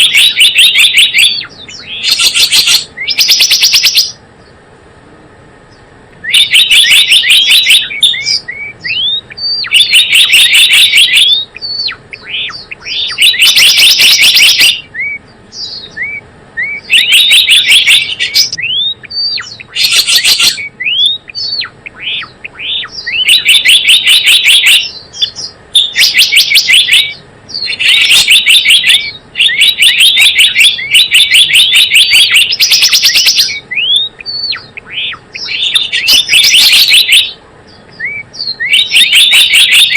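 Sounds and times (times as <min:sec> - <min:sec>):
rapid sharp bird chirps: 0:00.0 - 0:04.6, 0:05.6 - 0:39.9
upslurred bird notes: 0:00.0 - 0:04.6, 0:05.7 - 0:39.9.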